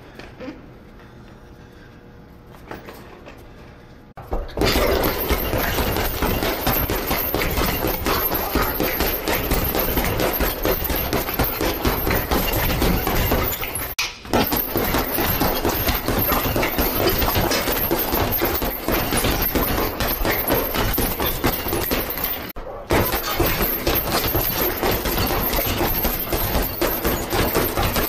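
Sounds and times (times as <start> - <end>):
punches thudding into heavy bag: 4.3 - 28.0.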